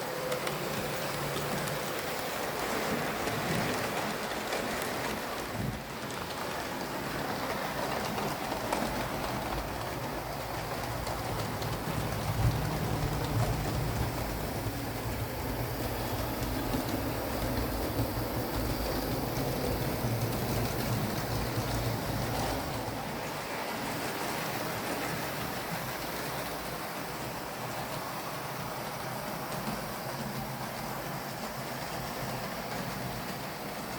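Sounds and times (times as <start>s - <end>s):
wheels clicking on rails: 0.0s - 33.9s.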